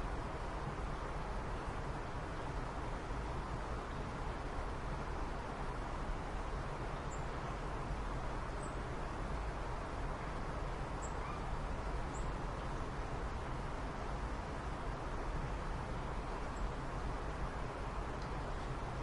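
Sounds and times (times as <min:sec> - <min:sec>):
background hiss and rumble: 0:00.0 - 0:19.0.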